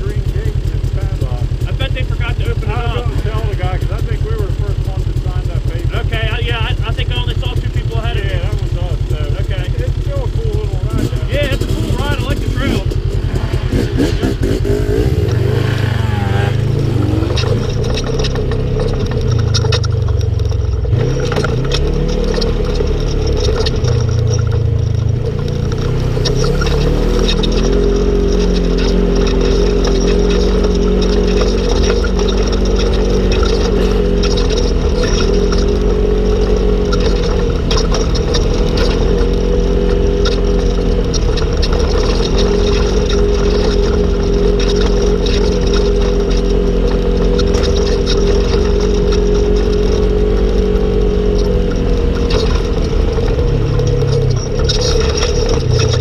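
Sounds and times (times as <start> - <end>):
off-road vehicle engine droning: 0.0 - 56.0
rattles and knocks over rough ground: 0.0 - 56.0.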